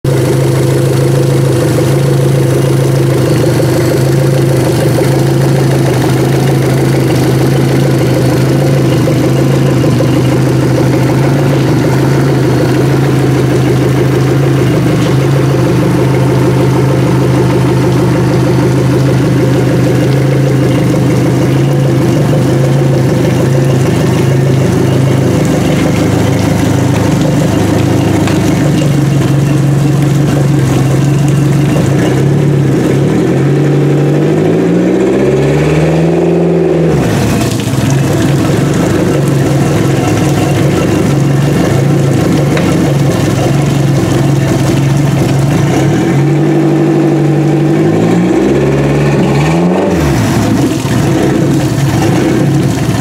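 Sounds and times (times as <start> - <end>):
outboard motor idling: 0.0 - 53.0.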